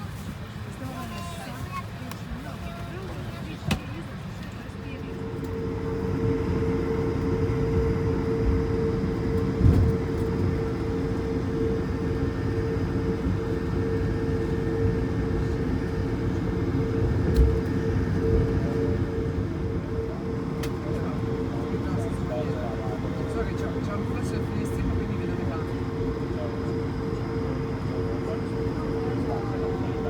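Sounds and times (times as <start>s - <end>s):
jet engines humming in cabin: 0.0s - 30.0s.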